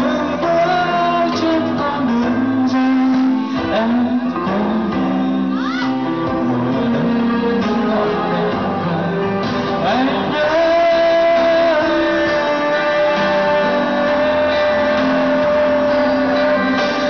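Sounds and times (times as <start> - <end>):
karaoke backing track: 0.0 - 17.0
man singing through microphone: 0.0 - 17.0.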